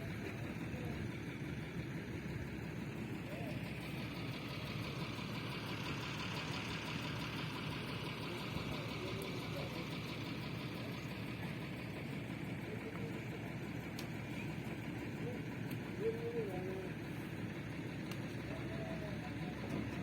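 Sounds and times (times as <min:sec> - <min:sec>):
faint voices: 0:00.0 - 0:20.0
large vehicle engine idling: 0:00.0 - 0:20.0.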